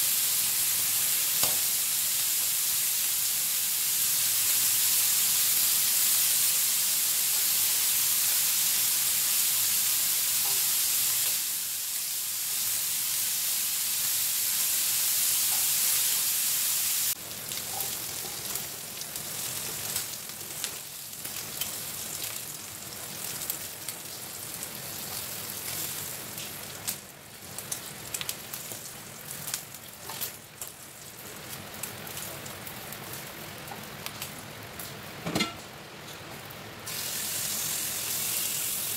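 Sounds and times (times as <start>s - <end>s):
pork sizzling in a grill pan: 0.0s - 38.9s.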